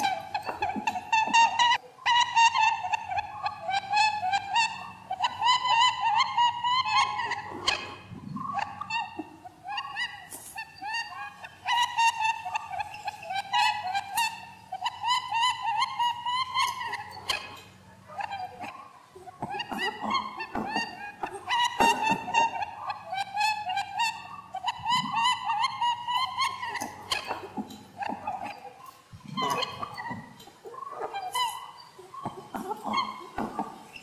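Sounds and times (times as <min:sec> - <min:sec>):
high chirping animal calls: 0:00.0 - 0:34.0.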